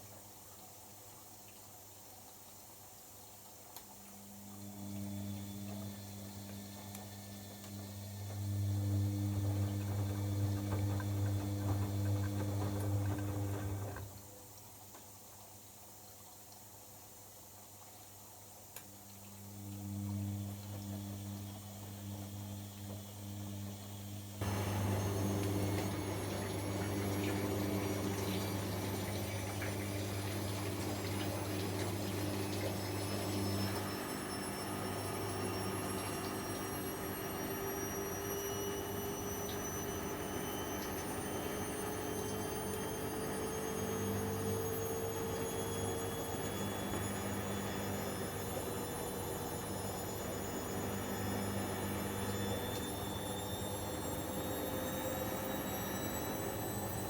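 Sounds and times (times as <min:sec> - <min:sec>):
washing machine low hum: 0:02.8 - 0:14.3, 0:17.6 - 0:57.0
motor whine rising: 0:04.1 - 0:14.1, 0:19.3 - 0:57.0.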